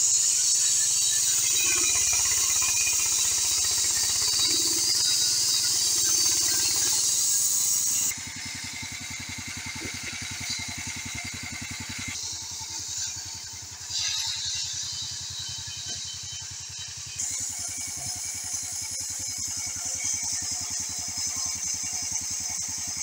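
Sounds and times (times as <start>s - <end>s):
band saw blade hissing through wood: 0.0s - 23.0s
petrol engine running: 0.0s - 23.0s.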